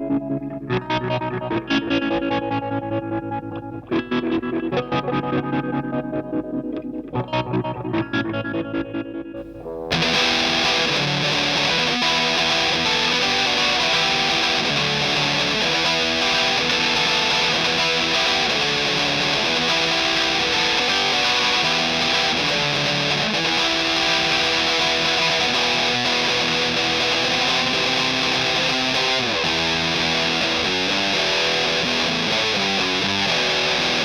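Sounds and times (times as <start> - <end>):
fuzzed electric guitar riff: 0.0 - 34.0.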